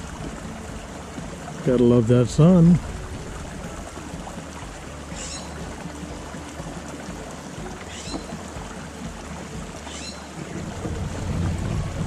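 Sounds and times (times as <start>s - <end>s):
brook flowing water: 0.0s - 12.0s.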